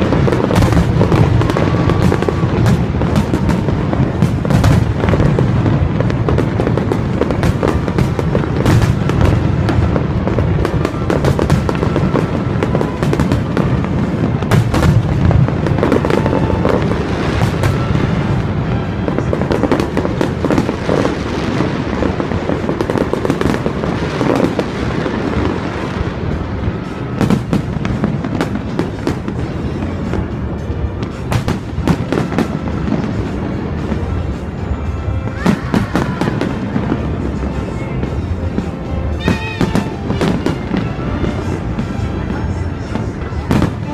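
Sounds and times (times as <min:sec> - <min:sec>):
fireworks booming: 0:00.0 - 0:43.9
fireworks crackling: 0:00.0 - 0:43.9.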